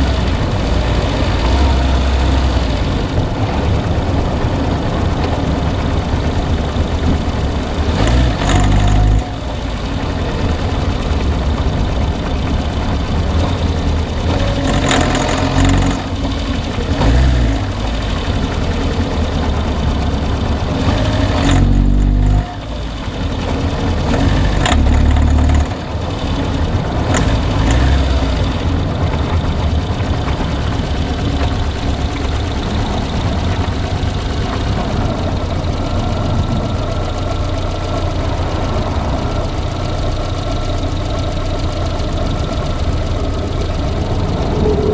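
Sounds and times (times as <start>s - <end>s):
car engine idling with a knock: 3.0s - 44.6s.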